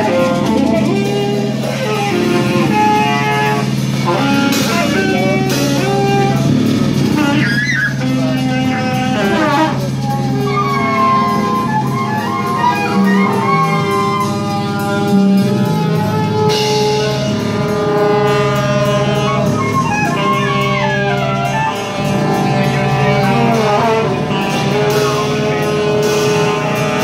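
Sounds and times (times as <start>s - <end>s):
drums: 0.0s - 27.0s
held melody notes: 0.0s - 27.0s
repeating bass line: 0.0s - 27.0s.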